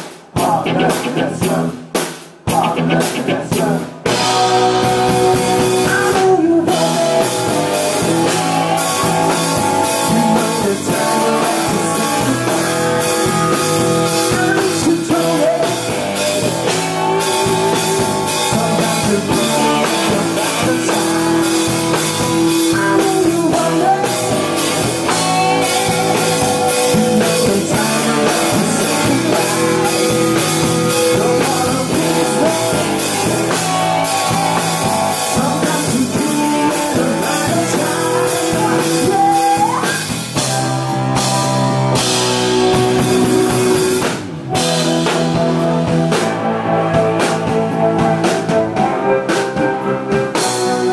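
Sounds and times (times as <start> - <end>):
drum kit beat: 0.0 - 50.9
electric guitar: 0.3 - 1.9, 2.5 - 50.9
person singing lead vocal: 0.4 - 1.8, 2.5 - 50.9.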